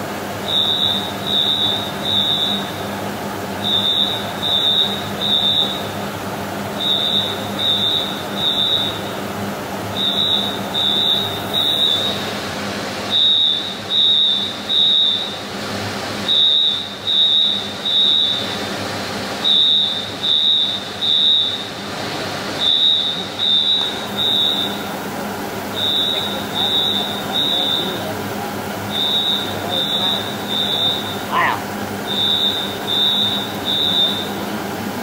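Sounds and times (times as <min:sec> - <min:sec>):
fire alarm beeping: 0:00.4 - 0:03.0, 0:03.6 - 0:06.1, 0:06.7 - 0:12.3, 0:13.1 - 0:15.5, 0:16.3 - 0:18.8, 0:19.4 - 0:21.8, 0:22.6 - 0:25.0, 0:25.7 - 0:31.4, 0:32.1 - 0:34.5.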